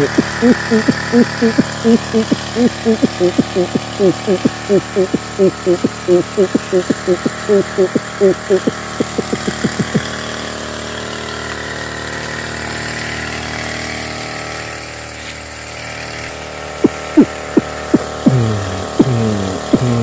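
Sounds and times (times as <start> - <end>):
power sprayer engine running: 0.0 - 20.0.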